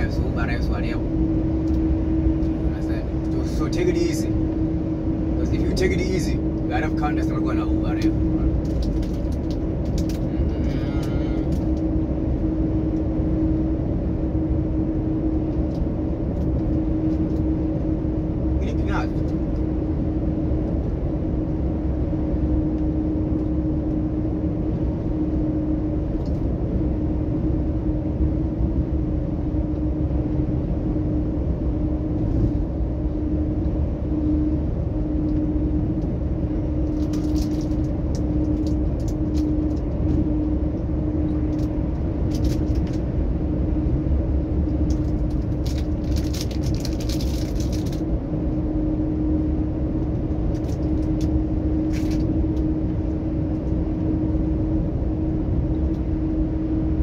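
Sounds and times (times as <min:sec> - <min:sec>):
truck diesel engine drone: 0:00.0 - 0:57.0.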